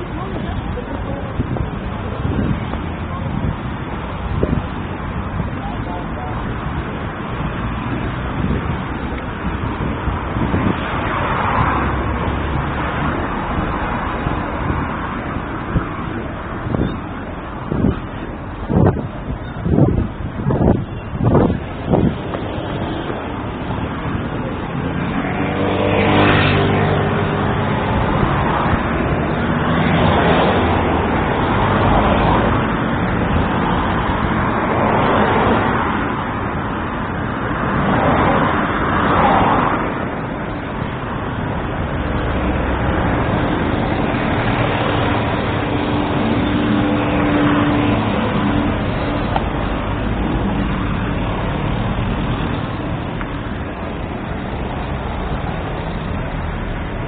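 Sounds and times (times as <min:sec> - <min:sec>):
road traffic rumble: 0:00.0 - 0:57.0
vehicles passing: 0:00.0 - 0:57.0.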